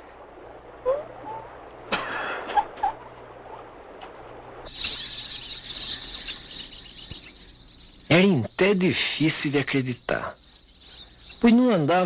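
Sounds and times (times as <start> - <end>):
birds chirping: 0.9 - 12.0.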